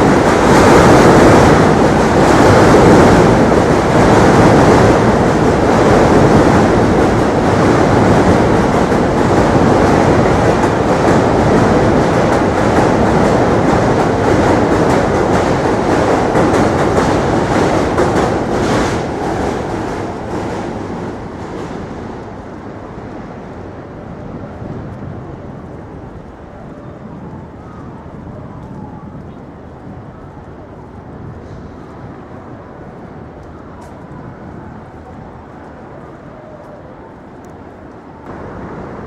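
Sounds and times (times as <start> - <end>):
subway train rumbling over bridge: 0.0 - 39.0.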